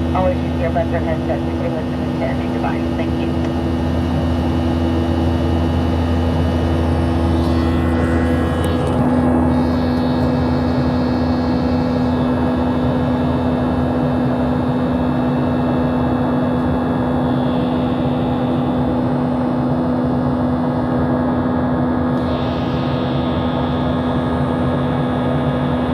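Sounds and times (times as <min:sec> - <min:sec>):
jet engine cabin noise: 0:00.0 - 0:25.9.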